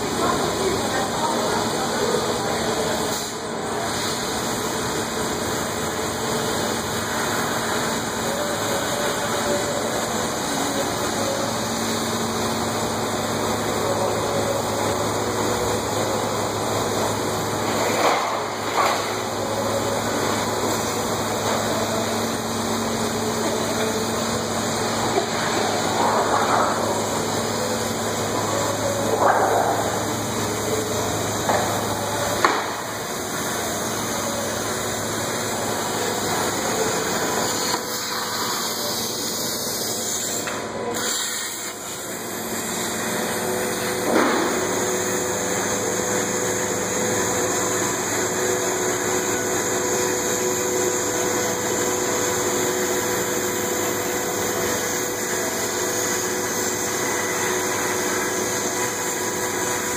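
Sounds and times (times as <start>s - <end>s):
hissing machine noise: 0.0s - 59.9s.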